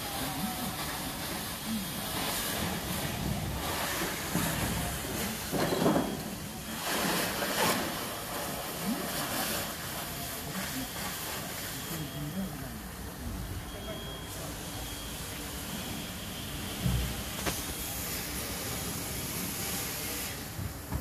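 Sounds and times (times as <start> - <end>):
fire hose spraying water: 0.0 - 20.9
faint distant voices: 0.0 - 21.0.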